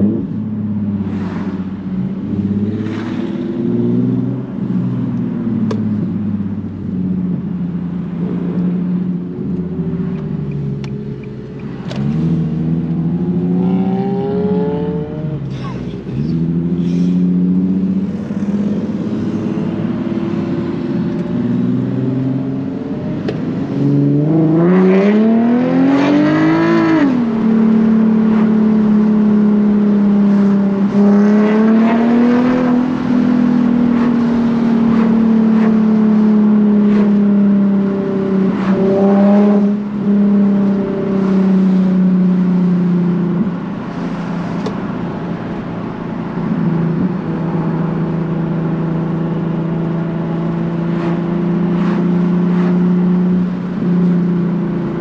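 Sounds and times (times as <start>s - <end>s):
car engine revving through exhaust: 0.0s - 55.0s.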